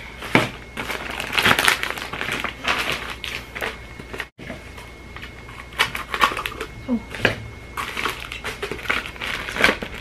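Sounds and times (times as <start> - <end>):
plastic mailer bag crinkling: 0.2 - 4.3, 5.2 - 10.0.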